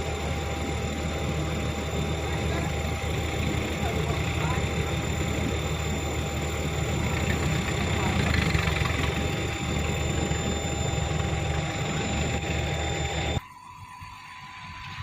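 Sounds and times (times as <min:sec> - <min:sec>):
truck diesel engine running: 0:01.2 - 0:13.4.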